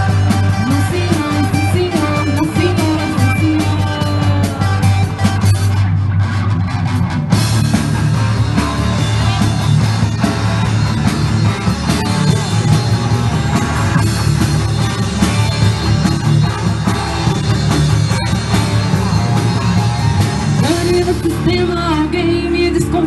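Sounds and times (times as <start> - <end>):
bass guitar: 0.0 - 23.0
drum kit: 0.0 - 23.0
electric guitar: 0.0 - 23.0.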